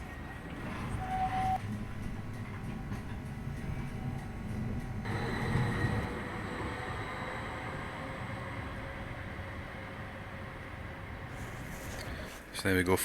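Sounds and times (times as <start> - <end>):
tram low rumble: 0.0 - 12.6.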